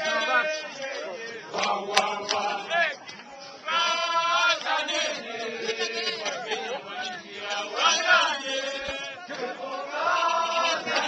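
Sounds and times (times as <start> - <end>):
male voices singing and chanting: 0.0 - 11.0.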